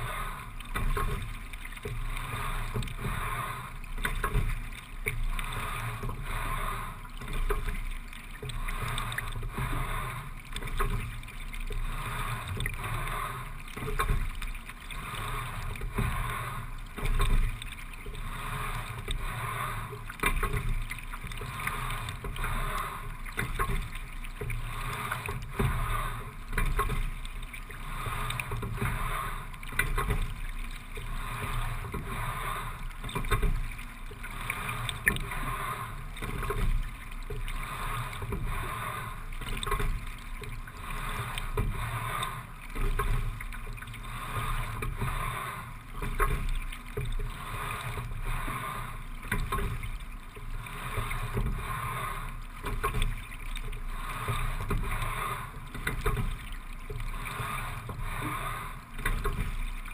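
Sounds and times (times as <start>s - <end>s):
water rushing along a hull: 0.0s - 59.9s.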